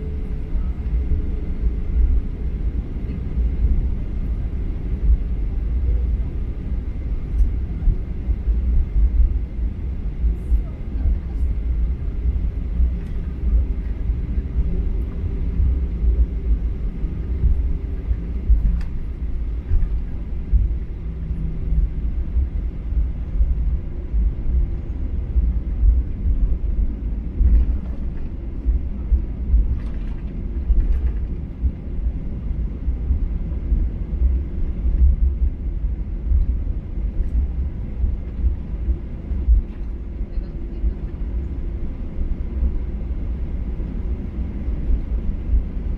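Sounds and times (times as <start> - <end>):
faint hum: 0.0 - 45.9
jet engines rumbling in cabin: 0.0 - 45.9.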